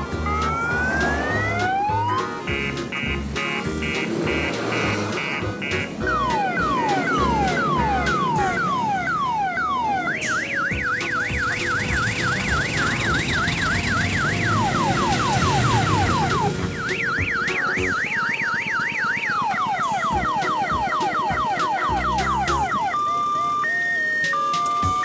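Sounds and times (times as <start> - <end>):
low traffic rumble: 0.0 - 24.0
electronic siren yelping: 0.0 - 25.0.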